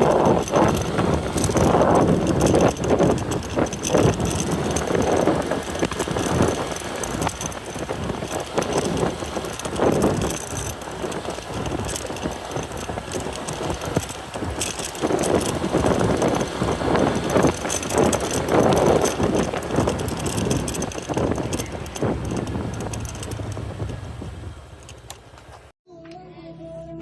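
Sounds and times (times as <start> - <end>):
motorbike engine: 0.0 - 25.8
road noise: 0.0 - 25.8.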